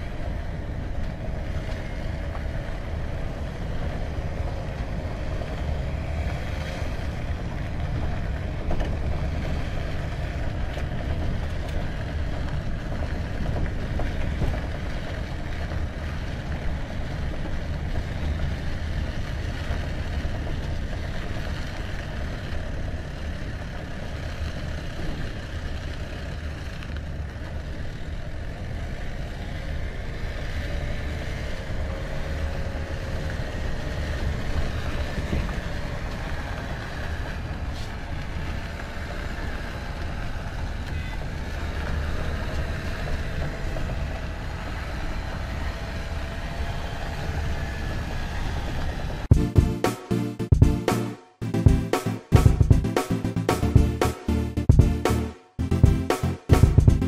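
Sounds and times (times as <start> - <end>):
vehicles driving on gravel: 0.0 - 57.0.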